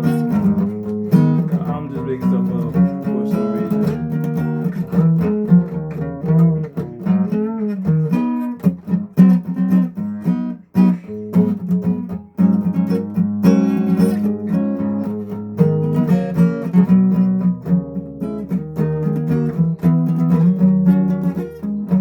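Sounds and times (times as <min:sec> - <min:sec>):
acoustic guitar plucked and strummed: 0:00.0 - 0:22.0.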